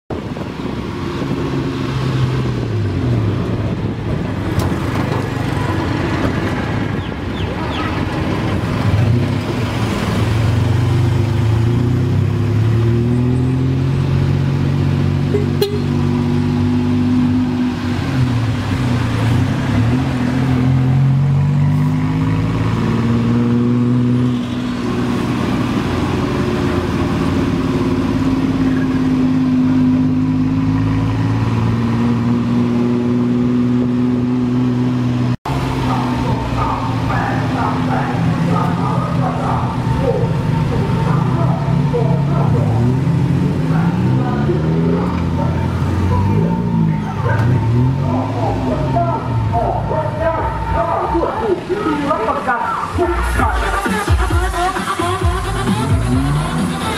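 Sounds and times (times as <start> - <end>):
street traffic: 0.1 - 56.9
tuk-tuk engine accelerating: 0.1 - 56.9.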